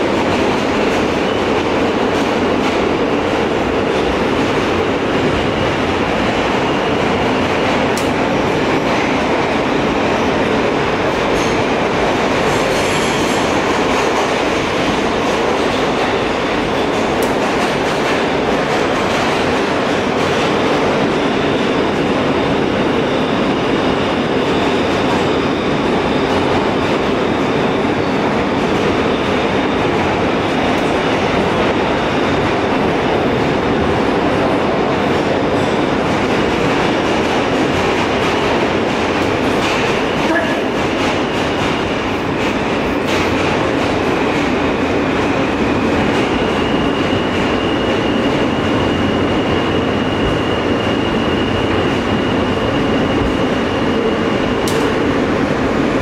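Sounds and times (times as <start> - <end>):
subway wheels on rails: 0.0 - 56.0.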